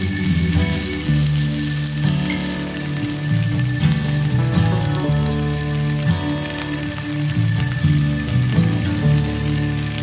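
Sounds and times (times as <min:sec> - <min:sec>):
background music: 0:00.0 - 0:10.0
vegetables sizzling in frying pan: 0:00.0 - 0:10.0.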